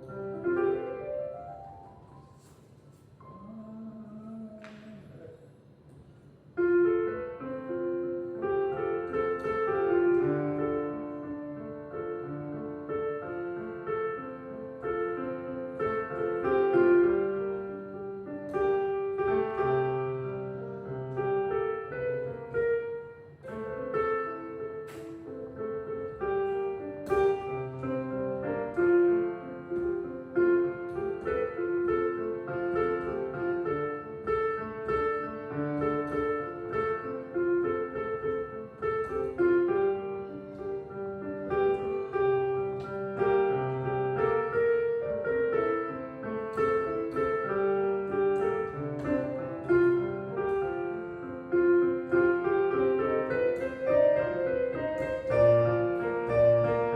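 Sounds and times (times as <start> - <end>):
piano melody over chords: 0.0 - 2.5, 6.6 - 56.9.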